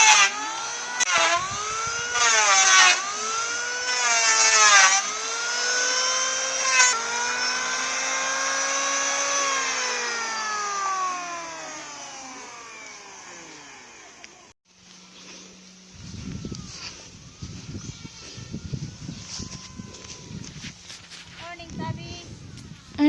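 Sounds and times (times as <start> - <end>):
motor whining and revving: 0.0 - 21.3.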